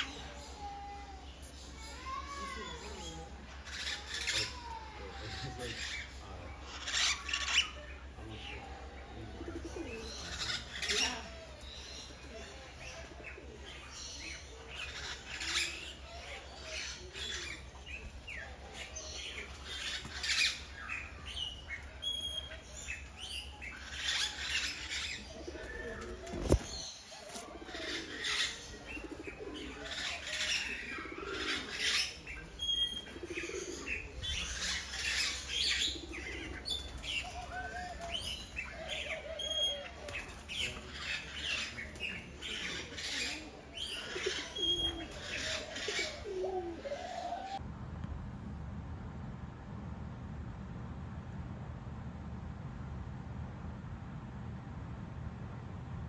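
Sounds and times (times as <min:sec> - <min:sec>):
birds chirping: 0:00.0 - 0:47.6.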